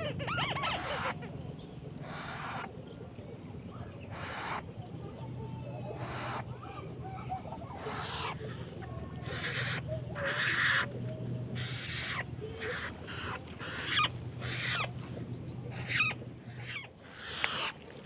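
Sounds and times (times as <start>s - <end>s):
birds calling harsh notes: 0.0s - 18.0s
steady low hum: 0.0s - 18.0s.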